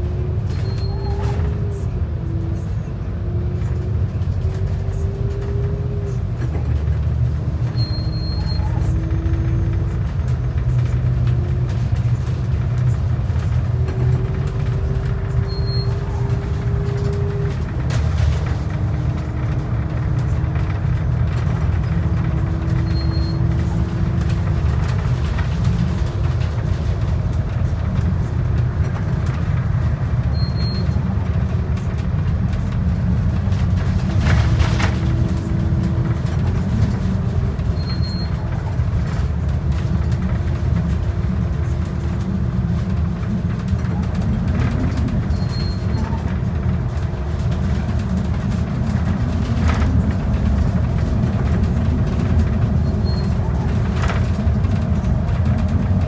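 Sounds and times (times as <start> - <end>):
bus engine and road rumble: 0.0 - 56.0
engine whine: 0.0 - 56.0.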